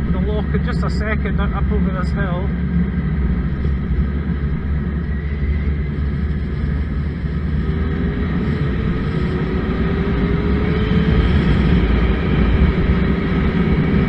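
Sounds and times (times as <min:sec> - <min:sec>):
motorcycle engine drone: 0:00.0 - 0:14.0
wind rushing over microphone: 0:00.0 - 0:14.0.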